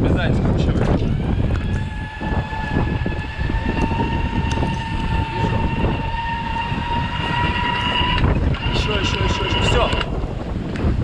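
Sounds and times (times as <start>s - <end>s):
wind rumble on microphone: 0.0s - 11.0s
electric furling motor whining: 0.3s - 11.0s.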